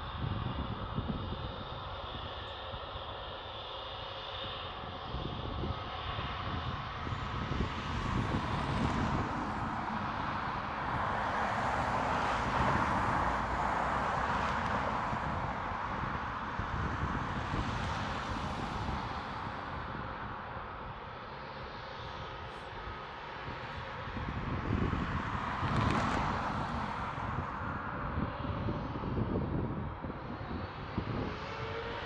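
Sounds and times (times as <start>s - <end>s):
jet airliner engines roaring: 0.0s - 32.0s.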